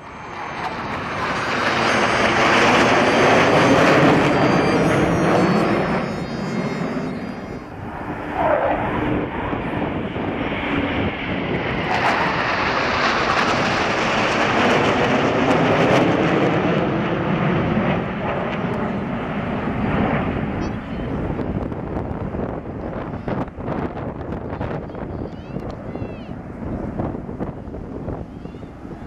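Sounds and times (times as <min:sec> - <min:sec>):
jets flying past overhead: 0:00.0 - 0:29.0.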